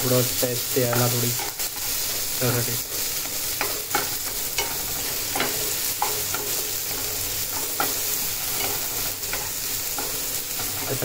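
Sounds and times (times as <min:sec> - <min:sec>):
onion and tomato sizzling in oil: 0:00.0 - 0:11.0
spatula scraping and tapping pan: 0:00.8 - 0:02.0, 0:03.1 - 0:11.0.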